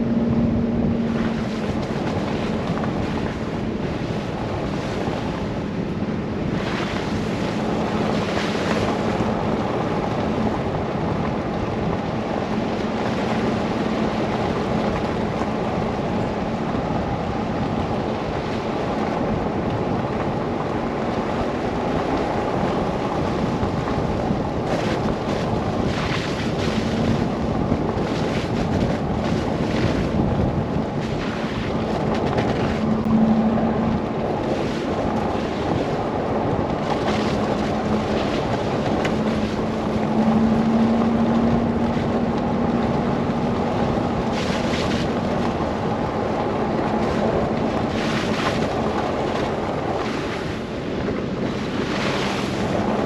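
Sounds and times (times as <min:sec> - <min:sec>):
car driving through blizzard: 0:00.0 - 0:53.0
wind noise: 0:00.0 - 0:53.0.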